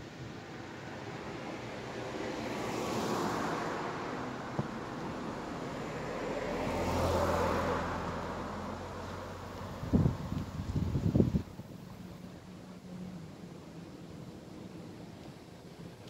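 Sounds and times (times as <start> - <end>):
vehicles passing: 0.0 - 16.0.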